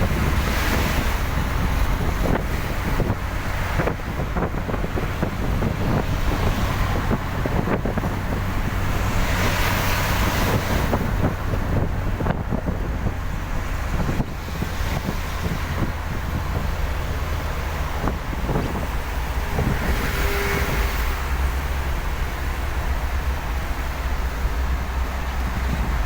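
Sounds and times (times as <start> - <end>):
vehicle driving on wet road: 0.0 - 26.0.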